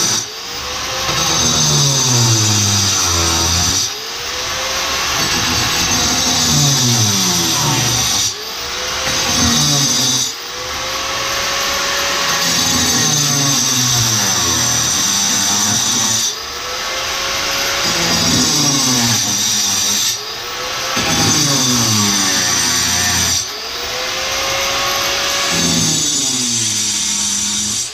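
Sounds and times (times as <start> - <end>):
power saw cutting tile: 0.0 - 27.9.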